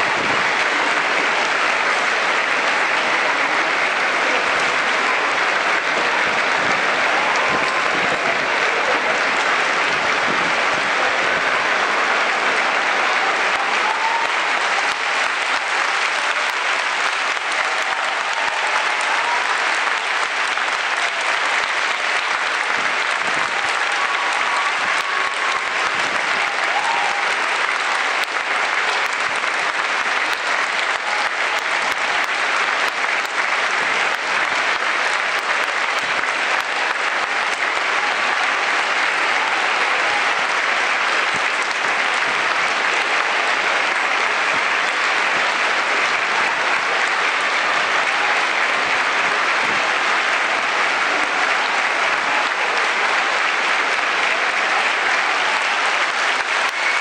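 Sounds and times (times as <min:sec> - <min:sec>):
stadium crowd clapping: 0:00.0 - 0:57.0.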